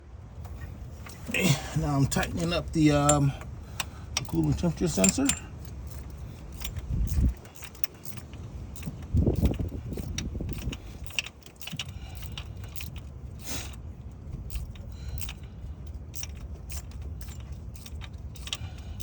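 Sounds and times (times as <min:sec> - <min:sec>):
wrench clicking and clinking: 0:02.2 - 0:13.8, 0:14.4 - 0:19.0.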